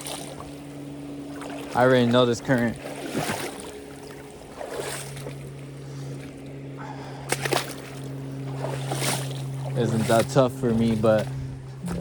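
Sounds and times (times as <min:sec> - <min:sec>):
river water rushing: 0:00.0 - 0:10.4
low hum: 0:00.0 - 0:12.0.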